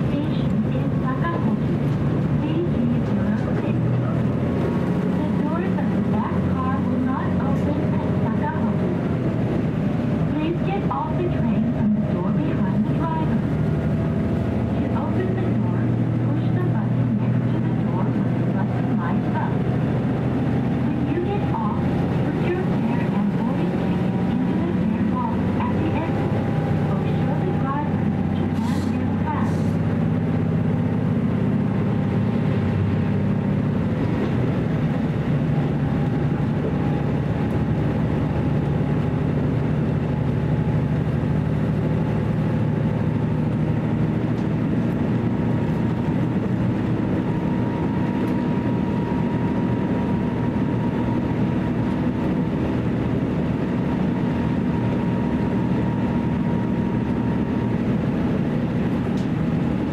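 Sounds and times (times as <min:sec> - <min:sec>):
diesel engine drone: 0:00.0 - 0:59.9
wheels rumbling on rail: 0:00.0 - 0:59.9.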